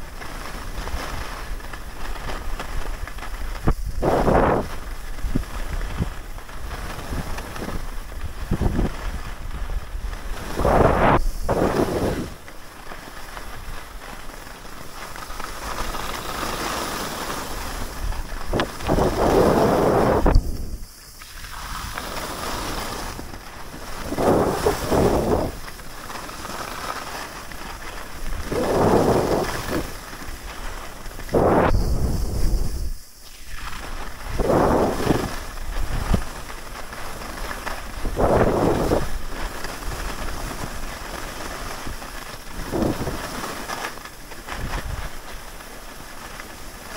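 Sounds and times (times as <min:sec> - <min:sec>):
skis scraping on snow: 0:00.0 - 0:46.9
wind rumble on microphone: 0:00.0 - 0:46.9.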